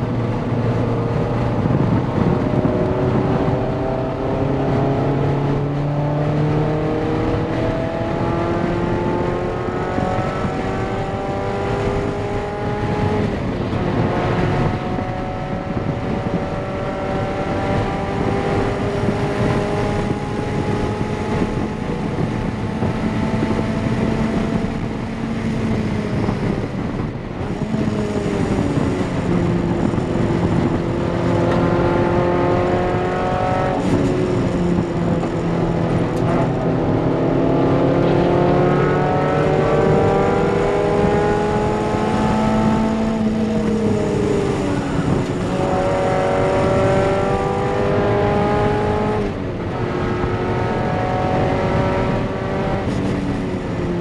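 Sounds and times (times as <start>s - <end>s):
car engine accelerating: 0.0s - 54.0s
tyre and wind noise: 0.0s - 54.0s.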